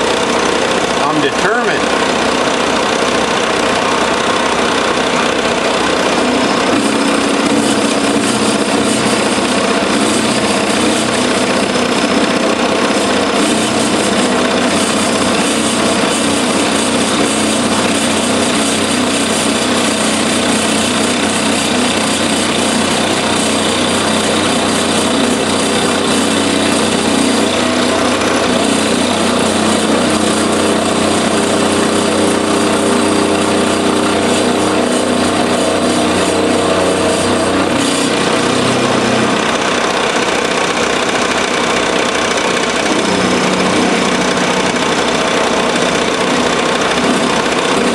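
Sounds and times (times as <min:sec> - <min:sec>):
milling machine cutting metal: 0:00.0 - 0:47.9.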